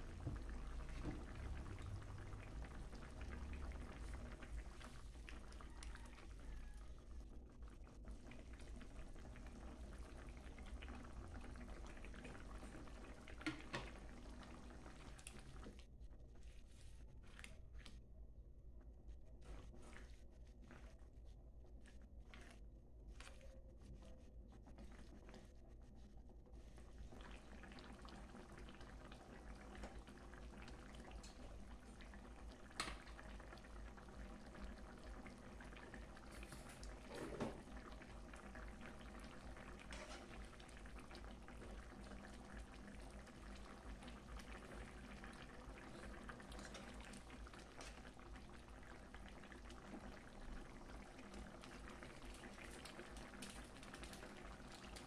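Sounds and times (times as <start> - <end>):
soup bubbling in pot: 0.0 - 16.6, 24.5 - 55.0.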